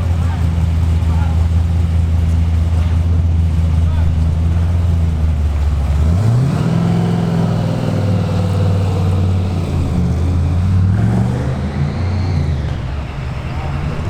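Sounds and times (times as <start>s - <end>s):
drag car engine at low revs: 0.0s - 14.0s.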